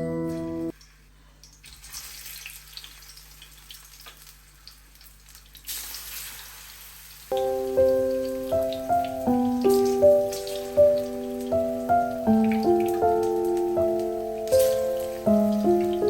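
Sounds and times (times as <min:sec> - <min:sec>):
food sizzling in a frying pan: 0:01.6 - 0:16.0.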